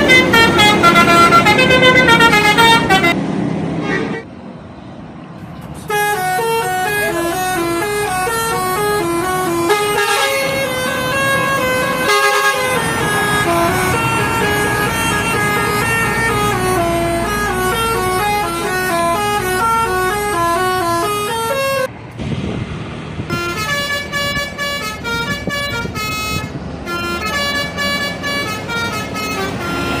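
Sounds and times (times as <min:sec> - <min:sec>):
bus horn playing a melody: 0:00.0 - 0:03.2, 0:05.8 - 0:21.9, 0:23.3 - 0:30.0
engine rumble: 0:00.0 - 0:30.0.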